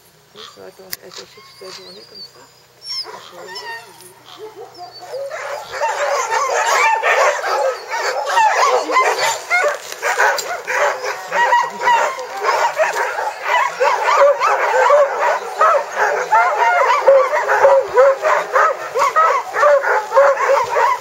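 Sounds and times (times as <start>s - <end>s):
sled dogs yipping and barking: 0.3s - 21.0s.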